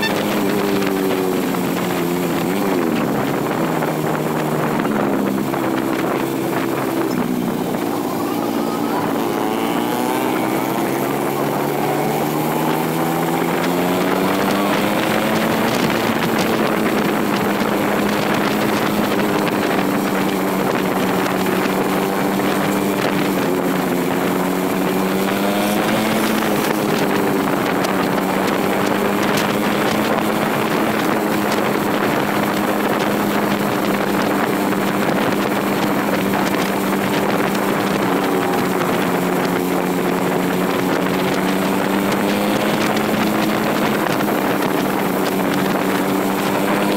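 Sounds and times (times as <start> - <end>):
motorcycle engine accelerating: 0.0 - 46.9
wind noise on microphone: 0.0 - 46.9.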